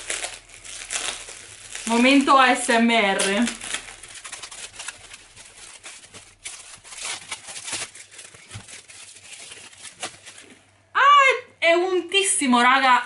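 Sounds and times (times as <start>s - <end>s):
plastic film crinkling: 0.0s - 10.7s.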